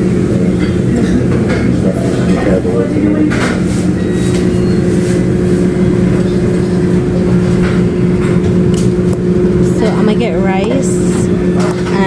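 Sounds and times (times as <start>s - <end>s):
loud mechanical hum: 0.0s - 12.0s.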